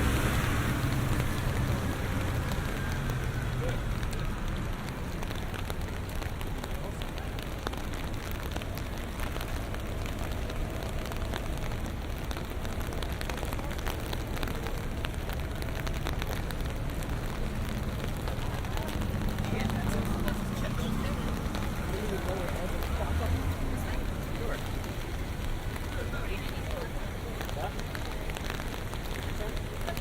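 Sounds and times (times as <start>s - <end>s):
low rumble of traffic: 0.0s - 30.0s
rain on a street: 0.0s - 30.0s.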